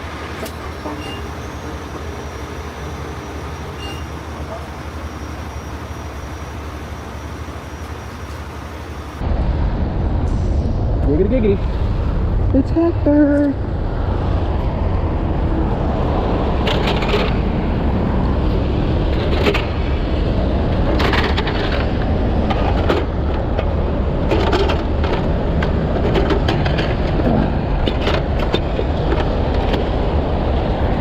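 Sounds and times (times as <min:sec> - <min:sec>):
diesel truck engine rumbling: 0:00.0 - 0:31.0.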